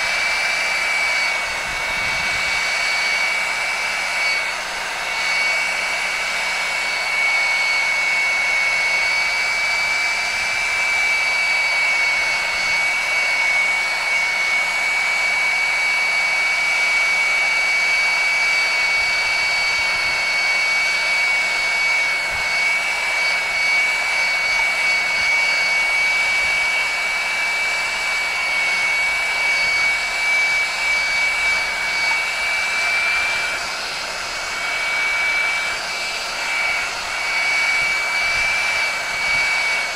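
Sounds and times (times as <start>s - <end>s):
fan motor whine: 0.0s - 39.9s
heat gun air rushing: 0.0s - 39.9s.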